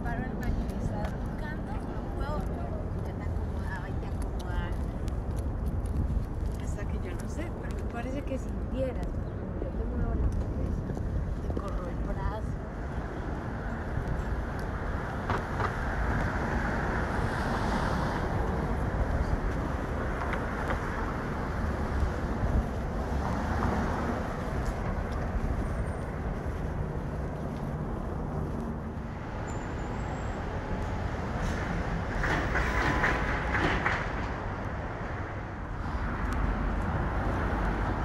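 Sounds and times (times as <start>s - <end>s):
city street traffic rumble: 0.0s - 38.0s.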